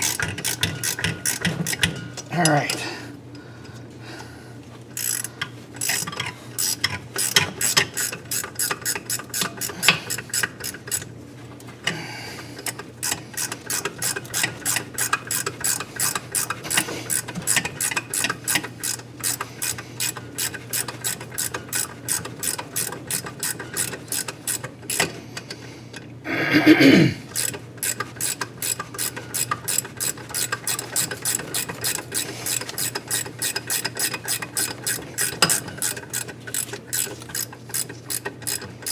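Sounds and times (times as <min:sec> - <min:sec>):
ratchet wrench clicking: 0:00.0 - 0:02.6, 0:05.0 - 0:11.1, 0:12.6 - 0:25.1, 0:27.3 - 0:38.9.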